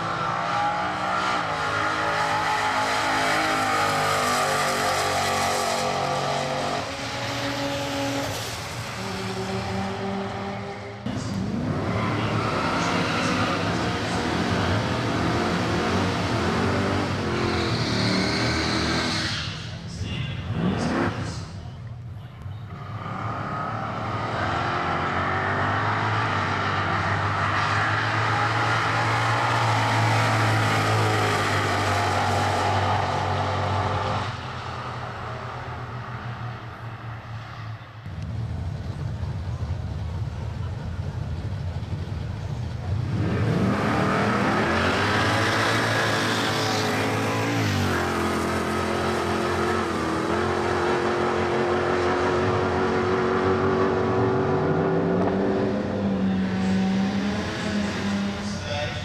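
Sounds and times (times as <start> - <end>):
drag racing car engines: 0.0 - 59.0.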